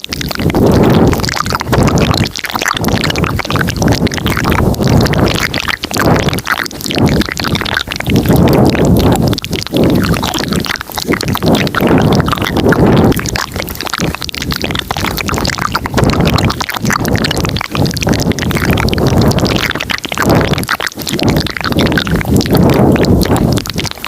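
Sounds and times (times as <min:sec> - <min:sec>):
wet mouth clicks and smacks: 0:00.0 - 0:24.0.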